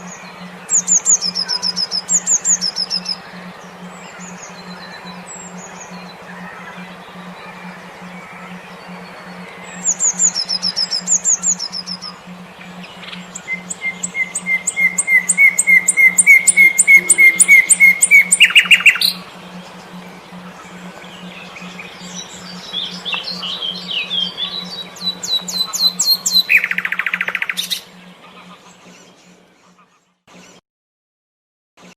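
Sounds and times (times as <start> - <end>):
pulsing low tone: 0.0 - 29.4
songbird trills and twittering: 0.0 - 30.6.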